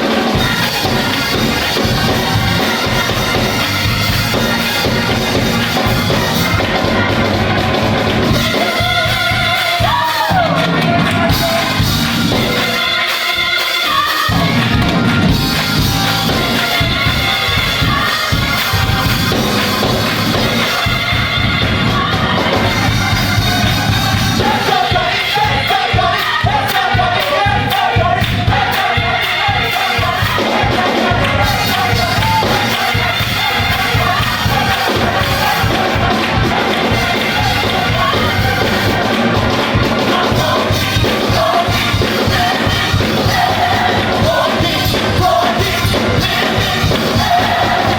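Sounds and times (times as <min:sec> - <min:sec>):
gospel choir and band: 0:00.0 - 0:47.9.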